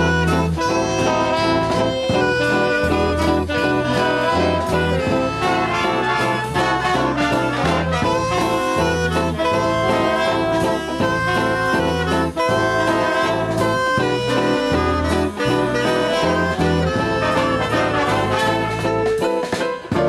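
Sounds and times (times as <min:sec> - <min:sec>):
big band swing music: 0:00.0 - 0:20.0.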